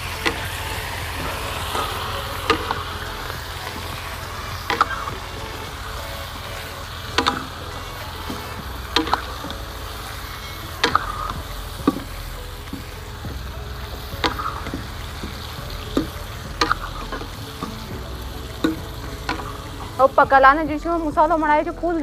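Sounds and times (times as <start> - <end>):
food frying in oil: 0.0 - 21.8.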